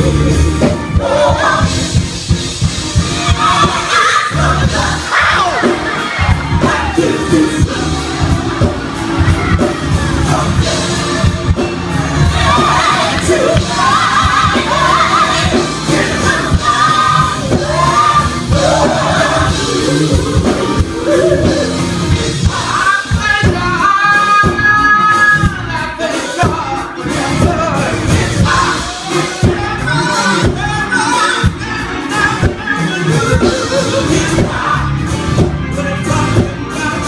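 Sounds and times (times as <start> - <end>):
gospel group singing: 0.0 - 37.0
live band with drums: 0.0 - 37.0.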